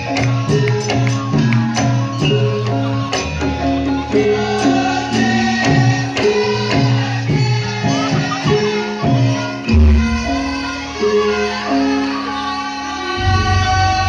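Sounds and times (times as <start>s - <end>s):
jingling percussion: 0.0s - 14.0s
live folk ensemble music: 0.0s - 14.0s.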